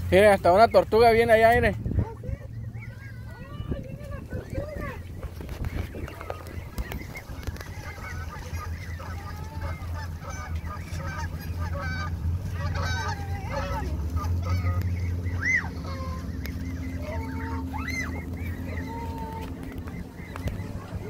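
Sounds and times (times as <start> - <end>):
geese honking: 0.0 - 21.0
steady low hum: 0.0 - 21.0.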